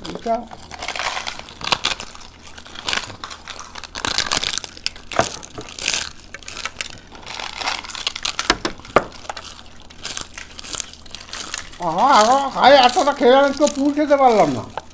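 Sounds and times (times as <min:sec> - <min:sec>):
crisp shells cracking and crunching: 0:00.0 - 0:14.9.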